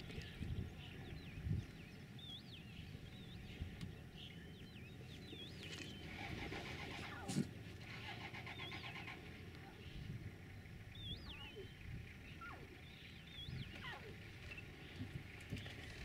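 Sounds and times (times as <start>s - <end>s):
birds whistling: 0.0s - 16.0s.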